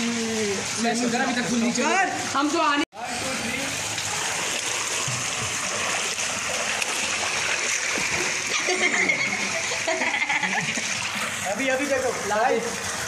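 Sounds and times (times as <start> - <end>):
pool water splashing: 0.0 - 13.0.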